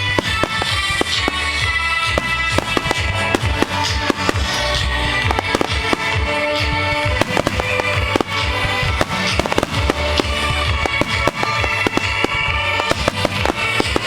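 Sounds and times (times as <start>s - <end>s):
fireworks bursting and crackling: 0.0s - 14.0s
music over loudspeakers: 0.0s - 14.0s.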